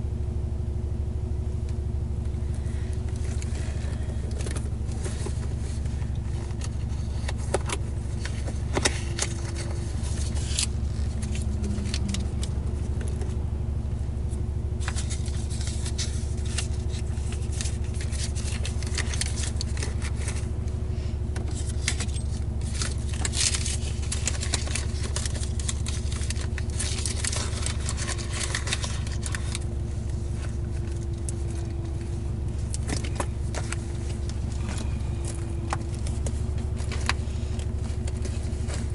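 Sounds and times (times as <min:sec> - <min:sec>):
car engine idling: 0:00.0 - 0:38.9
rummaging through a handbag: 0:02.6 - 0:13.4, 0:14.8 - 0:20.6, 0:21.4 - 0:38.9.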